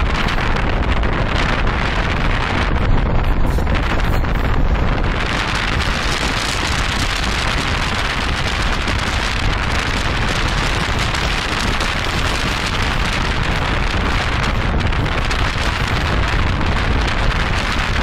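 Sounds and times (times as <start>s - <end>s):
wind and road noise: 0.0s - 18.0s
wind buffeting microphone: 0.0s - 18.0s.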